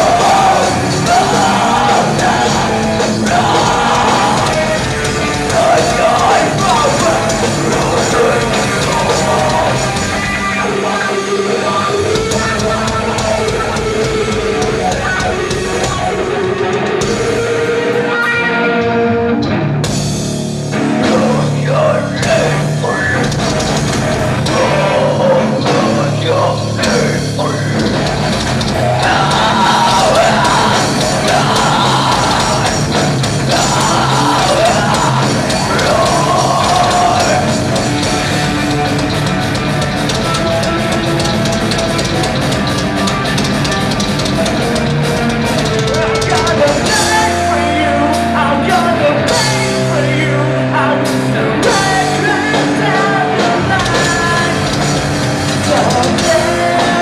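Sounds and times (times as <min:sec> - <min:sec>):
person singing: 0:00.0 - 0:19.0, 0:20.9 - 0:23.4, 0:24.4 - 0:27.9, 0:28.8 - 0:38.8, 0:45.7 - 0:57.0
drum kit: 0:00.0 - 0:57.0
live rock band playing: 0:00.0 - 0:57.0.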